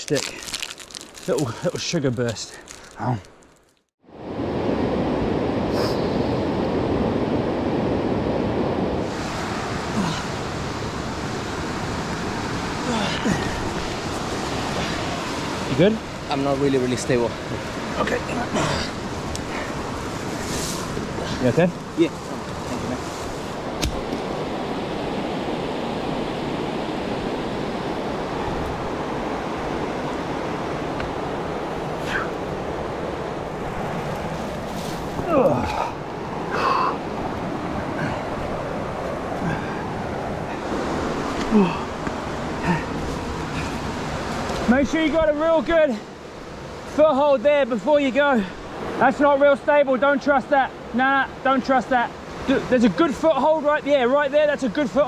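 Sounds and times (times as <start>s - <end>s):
river rushing: 4.1s - 55.0s.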